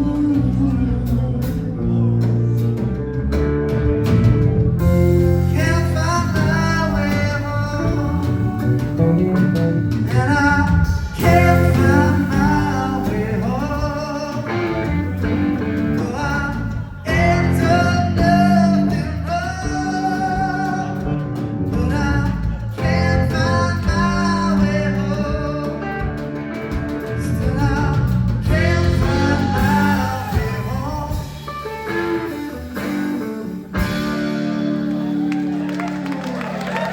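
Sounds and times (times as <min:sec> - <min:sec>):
person singing: 0:00.0 - 0:03.0, 0:05.3 - 0:26.2, 0:27.1 - 0:32.8
guitar: 0:00.0 - 0:36.9
live blues-rock band: 0:00.0 - 0:36.9.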